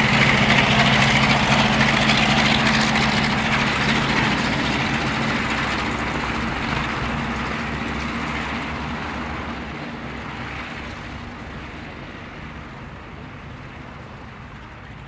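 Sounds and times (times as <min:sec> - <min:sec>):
aircraft radial engines droning: 0:00.0 - 0:15.0.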